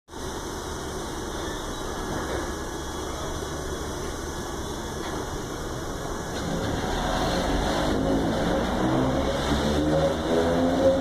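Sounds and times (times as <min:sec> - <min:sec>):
electric train growling: 0:00.3 - 0:11.0.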